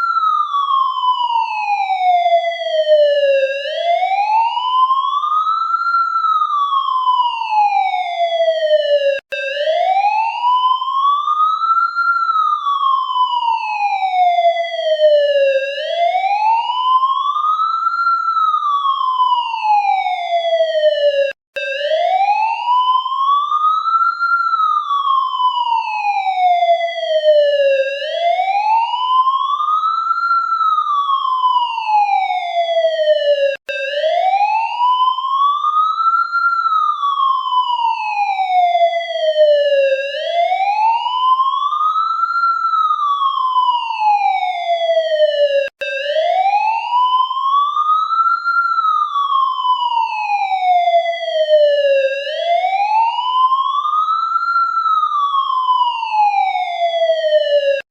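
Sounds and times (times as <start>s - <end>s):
police siren wailing: 0.0s - 57.9s.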